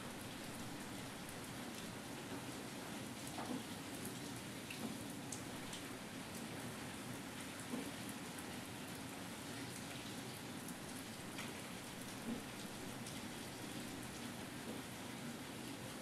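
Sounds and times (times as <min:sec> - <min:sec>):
light drizzle falling: 0:00.0 - 0:16.0.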